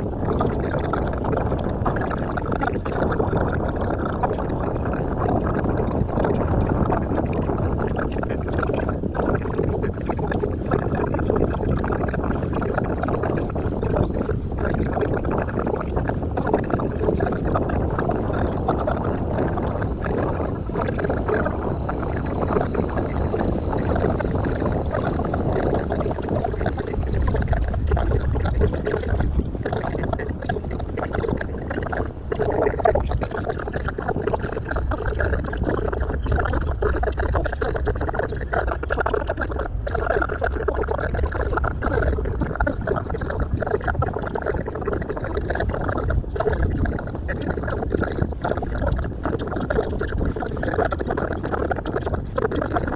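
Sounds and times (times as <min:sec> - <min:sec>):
boat wind water and engine rush: 0:00.0 - 0:52.9.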